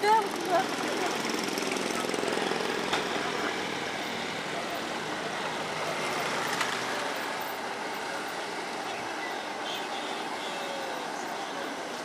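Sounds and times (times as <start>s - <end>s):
motorbikes and cars passing: 0.0s - 12.0s.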